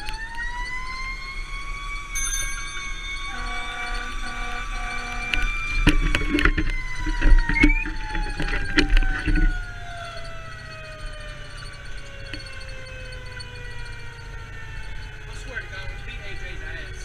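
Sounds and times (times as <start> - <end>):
fire engine siren winding down: 0.0 - 17.0.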